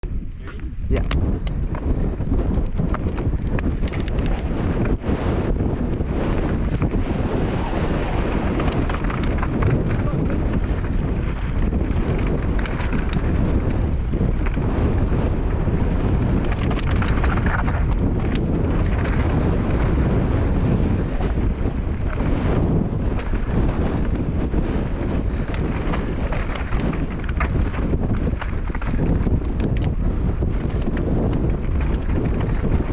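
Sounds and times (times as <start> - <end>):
wind buffeting microphone: 0.0 - 32.9
tyres on dirt trail: 0.1 - 32.9.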